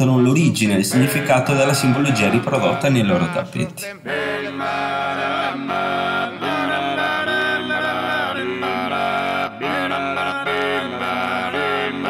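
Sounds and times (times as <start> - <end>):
voices singing in close harmony: 0.9 - 12.0.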